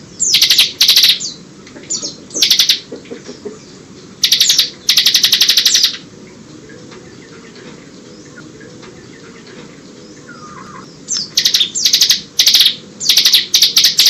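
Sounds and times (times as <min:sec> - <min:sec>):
bird singing rattling trills: 0:00.0 - 0:14.0.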